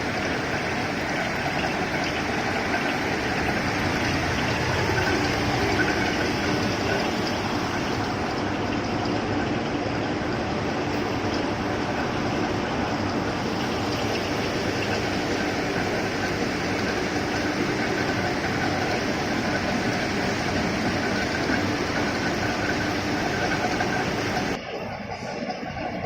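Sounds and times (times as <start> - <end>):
faint steady hum: 0.0 - 25.4
rolling mill and furnace din: 0.0 - 25.6.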